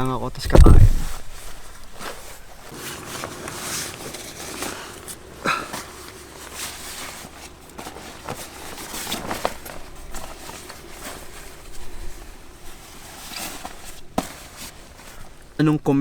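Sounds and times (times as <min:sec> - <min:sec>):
clothes rustling and shuffling: 0:00.0 - 0:16.0.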